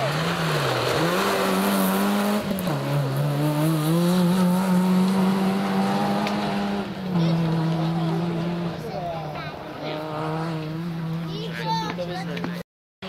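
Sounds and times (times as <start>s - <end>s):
rally car engine revving: 0.0s - 12.6s.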